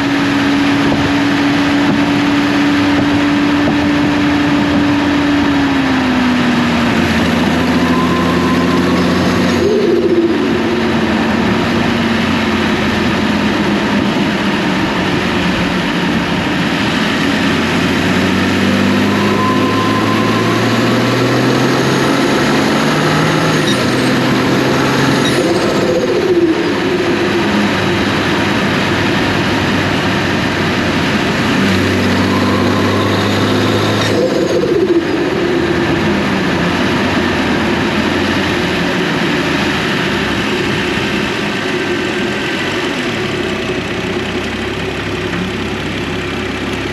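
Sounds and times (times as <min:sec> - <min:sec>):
turbocharged engine revving: 0:00.0 - 0:46.9.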